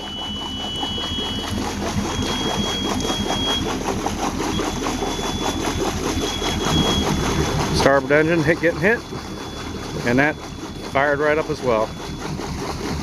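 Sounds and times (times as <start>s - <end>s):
diesel engine idling with knock: 0.0s - 13.0s.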